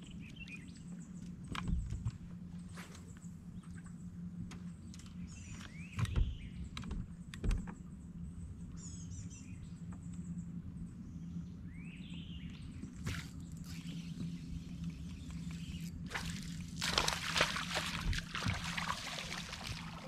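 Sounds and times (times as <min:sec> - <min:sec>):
trolling motor humming: 0:00.0 - 0:20.0
birds calling with sweeping notes: 0:02.5 - 0:20.0.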